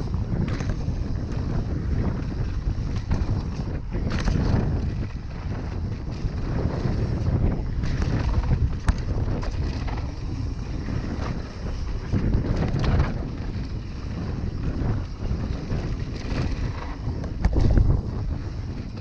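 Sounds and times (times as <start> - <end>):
bike tyres on dirt: 0.0 - 19.0
wind rumbling on microphone: 0.0 - 19.0.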